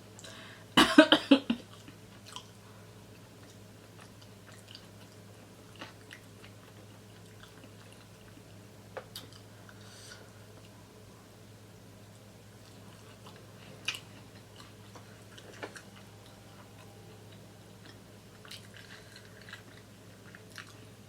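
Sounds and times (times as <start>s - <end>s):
person chewing with mouth smacks: 1.7s - 10.8s, 12.6s - 21.0s.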